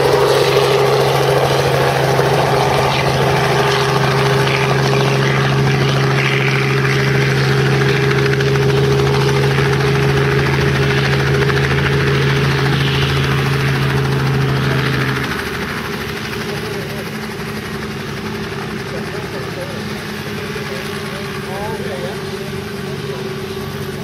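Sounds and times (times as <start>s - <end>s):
helicopter engine and rotors: 0.0s - 24.0s.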